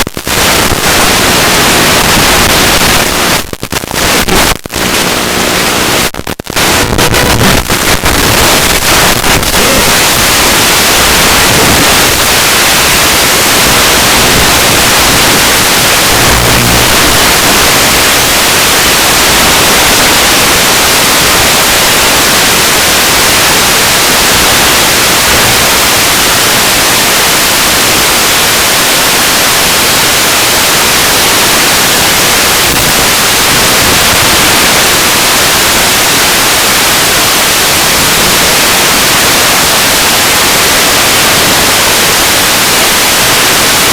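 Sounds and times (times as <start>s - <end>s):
loud static hiss: 0.0s - 43.9s.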